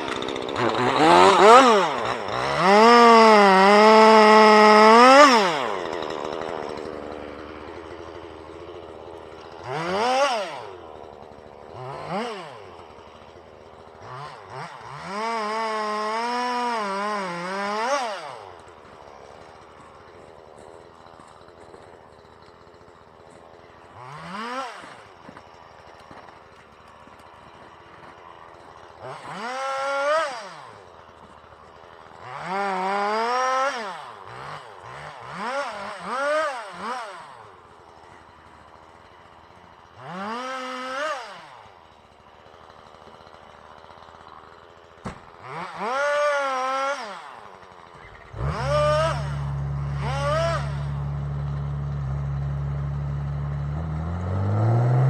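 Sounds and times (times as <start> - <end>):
chainsaw engine revving and idling: 0.0 - 55.0.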